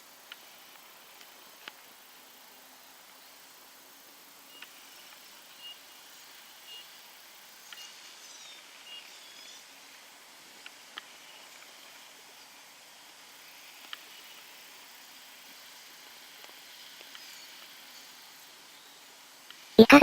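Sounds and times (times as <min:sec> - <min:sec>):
faint outdoor hiss: 0:00.0 - 0:20.0.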